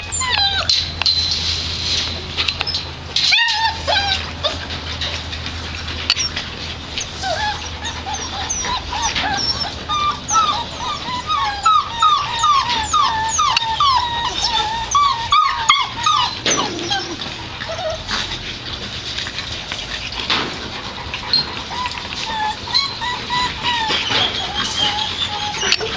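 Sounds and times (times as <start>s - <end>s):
puppies whimpering: 0.0s - 1.6s, 2.5s - 25.9s.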